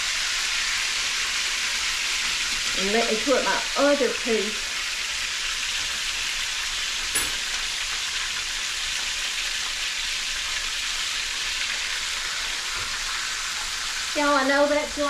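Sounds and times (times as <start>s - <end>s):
steak sizzling in a skillet: 0.0s - 15.0s.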